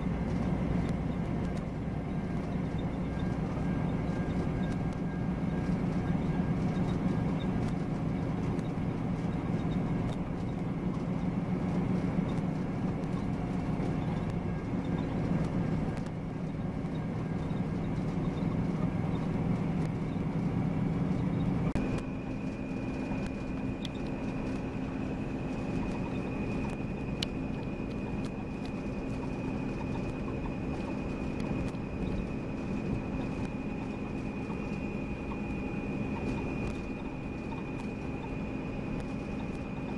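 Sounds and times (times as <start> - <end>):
coach engine droning: 0.0 - 39.9
thin high whine: 0.0 - 39.9.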